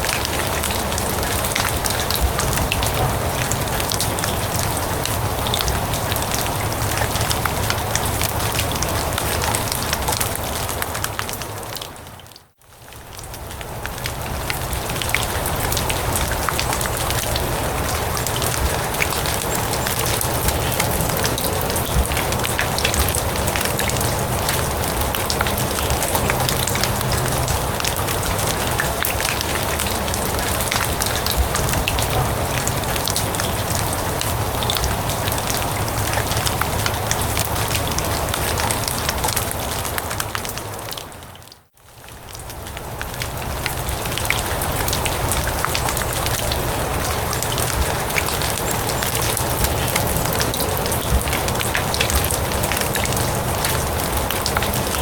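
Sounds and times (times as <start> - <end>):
rain on grass and leaves: 0.0 - 55.0.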